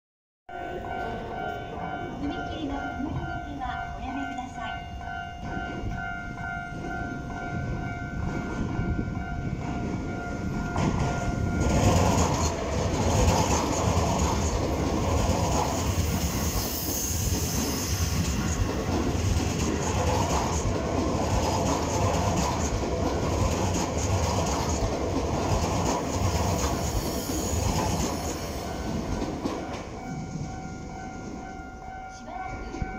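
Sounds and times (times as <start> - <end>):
level-crossing warning bell: 0.5 - 32.9
train passing at speed: 0.5 - 32.9.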